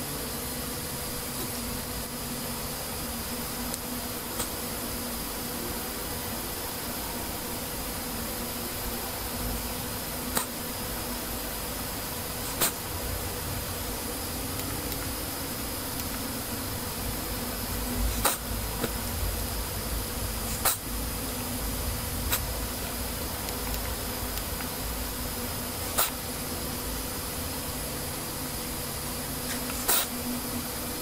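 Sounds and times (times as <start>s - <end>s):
computer electrical hum: 0.0s - 31.0s.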